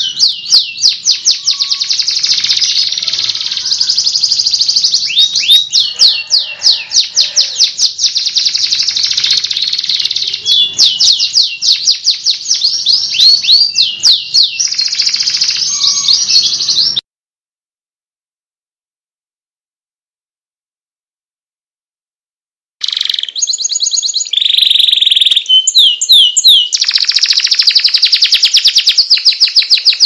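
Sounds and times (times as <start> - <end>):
canary singing trills: 0.0 - 17.0, 22.8 - 30.0.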